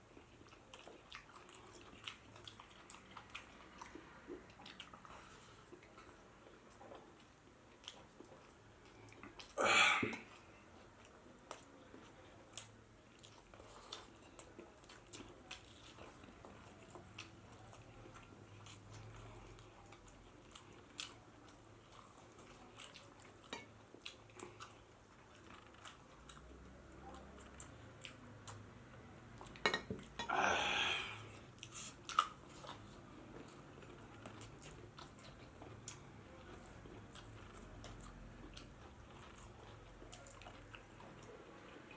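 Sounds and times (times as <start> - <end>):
close chewing of food: 0.0 - 41.9.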